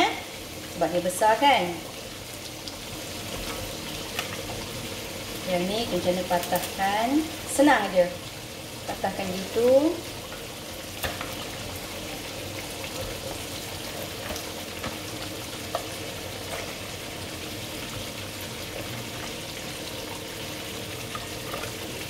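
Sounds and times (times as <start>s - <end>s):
curry bubbling and sizzling: 0.0s - 22.0s.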